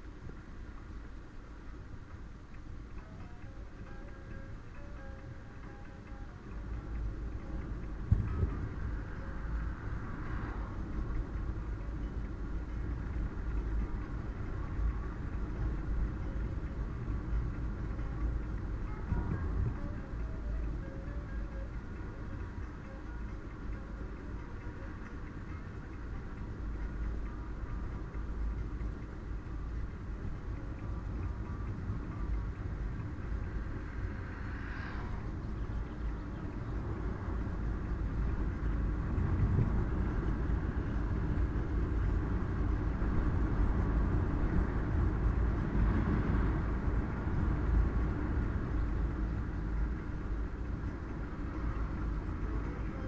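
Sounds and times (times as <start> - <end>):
car engine rumble: 0.0 - 53.0
road noise: 0.0 - 53.0.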